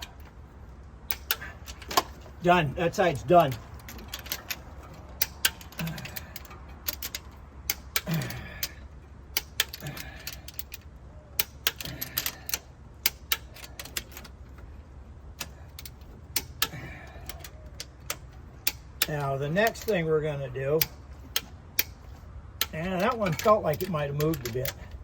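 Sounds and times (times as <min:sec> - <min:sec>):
metal tools clinking: 0:00.0 - 0:14.8, 0:15.4 - 0:25.0
wrench ratcheting and clicking: 0:01.0 - 0:02.3, 0:03.2 - 0:14.7, 0:15.4 - 0:20.0, 0:20.8 - 0:25.0.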